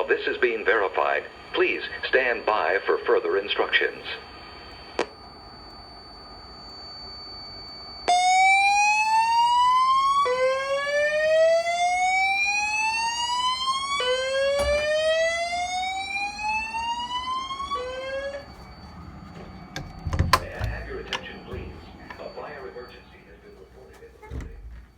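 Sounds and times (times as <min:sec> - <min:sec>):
faint high whine: 0:00.0 - 0:24.9.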